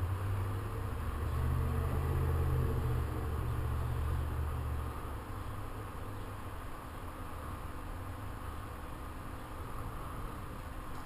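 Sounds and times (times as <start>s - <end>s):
low mechanical hum: 0.0s - 11.0s
steady background hiss: 0.0s - 11.0s.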